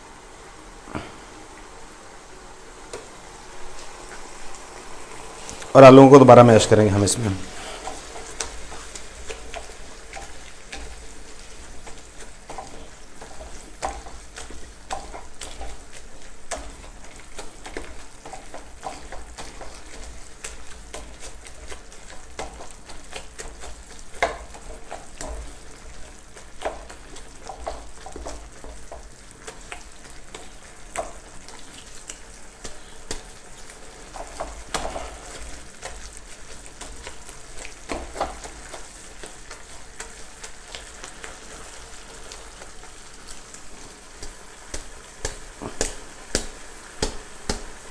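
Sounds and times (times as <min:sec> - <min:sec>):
potato masala sizzling in a pan: 0:00.0 - 0:47.9
spoon scraping and tapping pan: 0:07.5 - 0:47.9.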